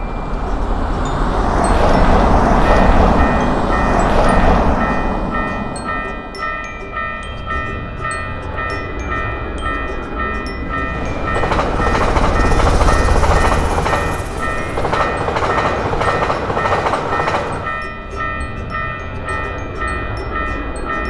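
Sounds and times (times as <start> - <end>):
train passing rumble: 0.0 - 18.4
level-crossing warning bell: 0.0 - 21.0.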